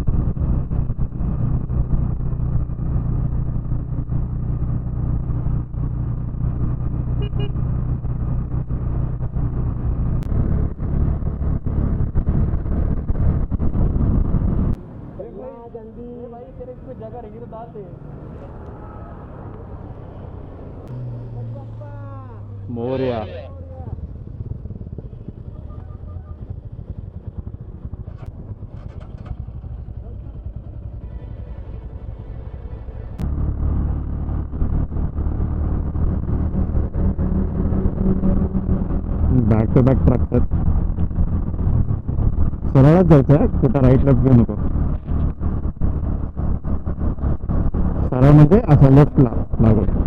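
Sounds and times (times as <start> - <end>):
motorcycle engine running: 0.0 - 14.8, 20.9 - 50.0.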